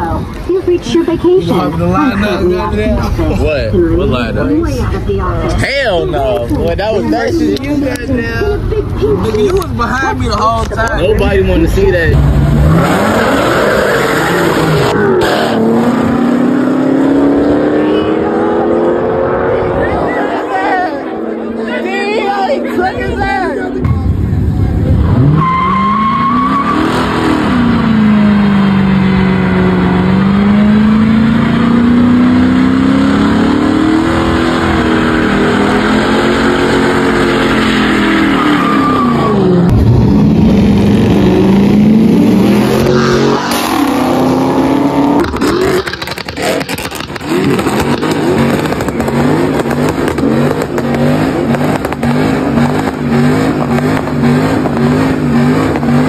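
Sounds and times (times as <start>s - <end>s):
car engine revving: 0.0s - 23.0s, 23.8s - 56.0s.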